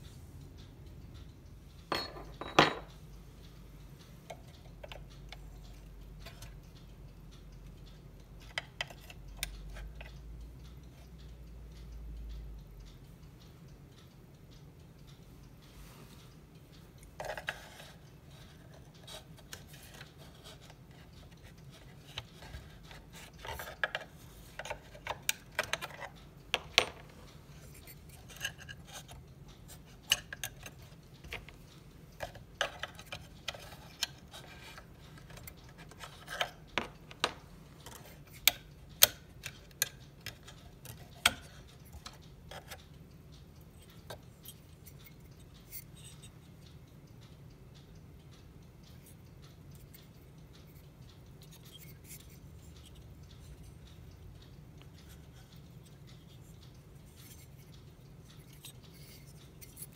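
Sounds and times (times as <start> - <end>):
clock parts clicking and knocking: 0.4 - 59.9.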